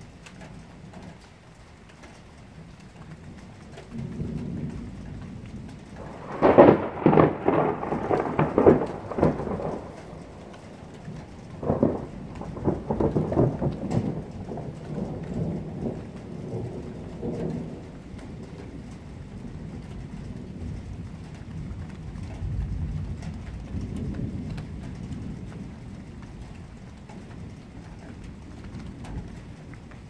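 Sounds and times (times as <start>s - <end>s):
steady rain: 0.0s - 30.0s
thunder cracking and rumbling: 3.0s - 30.0s.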